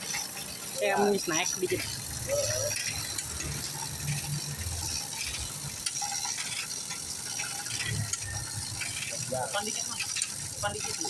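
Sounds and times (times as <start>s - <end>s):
ratcheting mechanical clicking: 0.0s - 11.0s.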